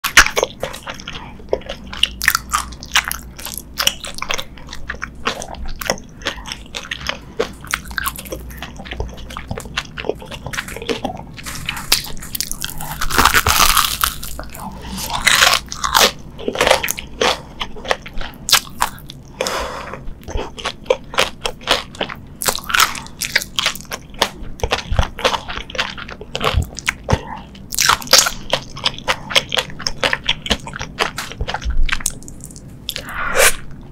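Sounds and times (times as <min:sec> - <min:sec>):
crunchy food chewing: 0:00.0 - 0:33.9.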